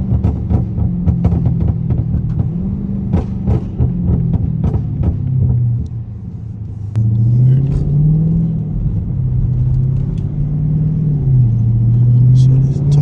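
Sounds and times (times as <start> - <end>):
car engine accelerating: 0.0 - 13.0
sharp exhaust pops: 0.0 - 13.0.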